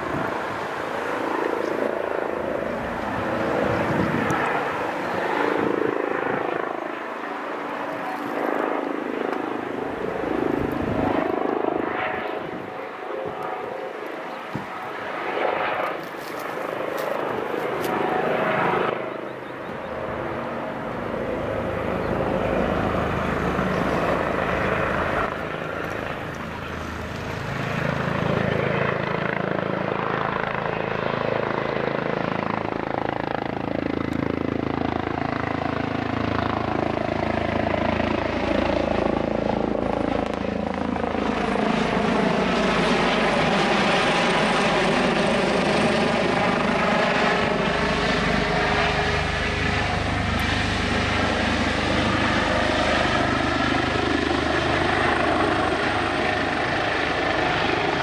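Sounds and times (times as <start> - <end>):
helicopter engines and rotors: 0.0 - 58.0.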